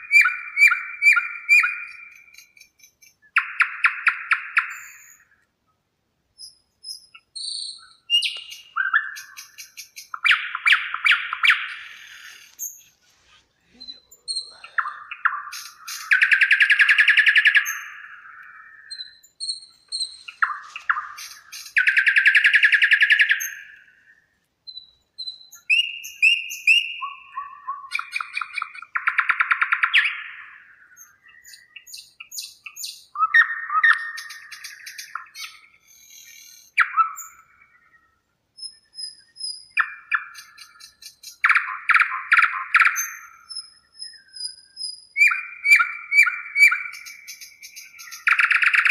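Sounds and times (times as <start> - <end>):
songbird trills and chirps: 0.0 - 48.9.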